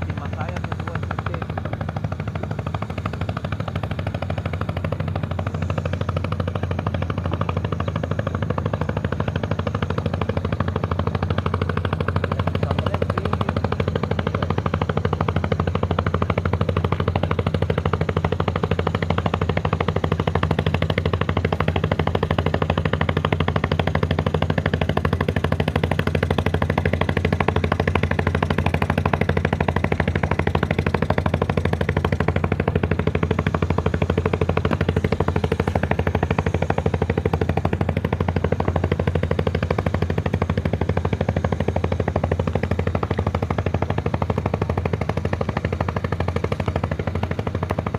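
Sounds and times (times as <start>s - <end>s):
boat engine chugging: 0.0s - 47.9s.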